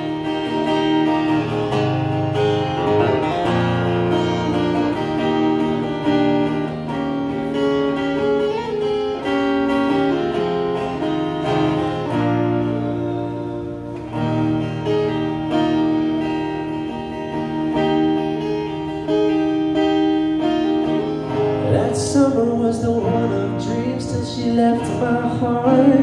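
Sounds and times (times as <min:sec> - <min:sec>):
acoustic guitar chords: 0:00.0 - 0:26.0.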